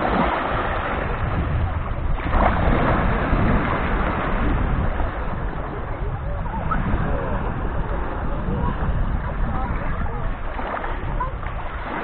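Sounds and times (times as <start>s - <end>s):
small waves washing onto beach: 0.0s - 12.0s
wind rumbling on microphone: 0.0s - 12.0s.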